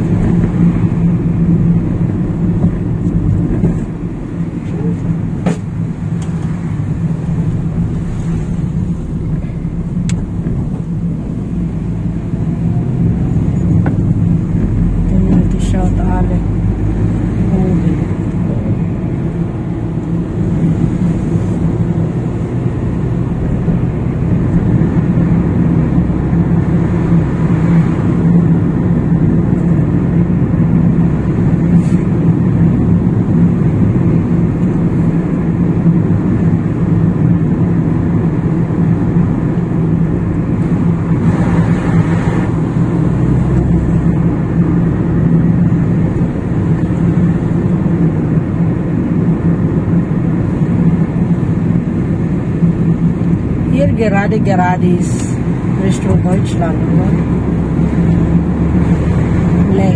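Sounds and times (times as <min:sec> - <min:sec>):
low engine drone: 0:00.0 - 0:59.9
tyre and road noise: 0:00.0 - 0:59.9.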